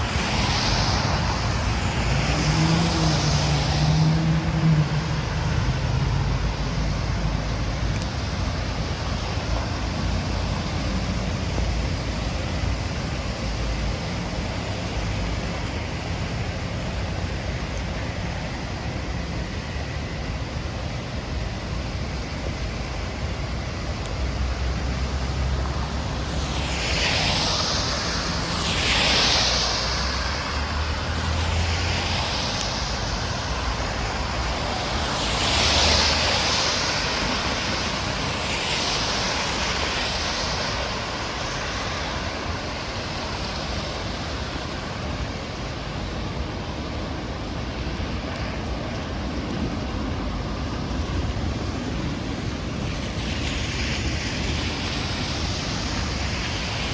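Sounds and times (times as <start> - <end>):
rainy street low rumble: 0.0 - 56.9
vehicles passing on wet road: 0.0 - 56.9.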